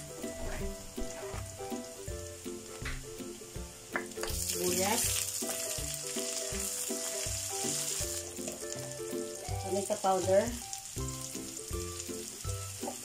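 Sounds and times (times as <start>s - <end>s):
background music: 0.0s - 13.0s
garlic sizzling in hot oil: 0.0s - 13.0s.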